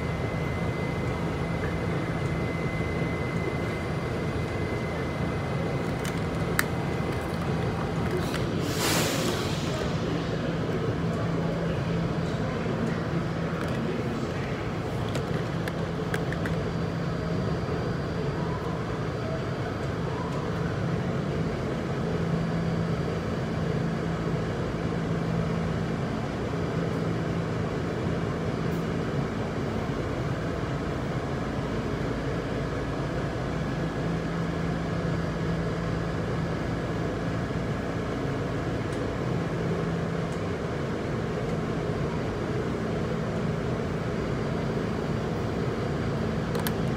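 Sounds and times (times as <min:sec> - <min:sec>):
subway train rumble: 0:00.0 - 0:46.9.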